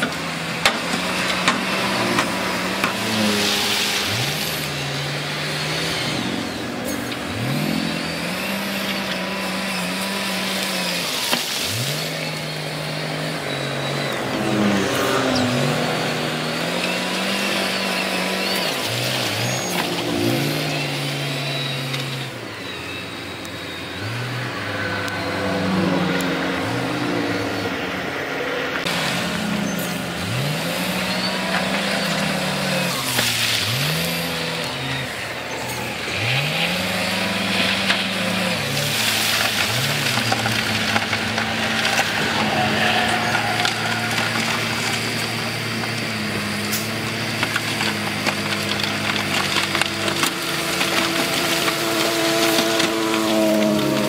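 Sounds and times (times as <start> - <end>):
heavy diesel engine revving: 0.0 - 54.0.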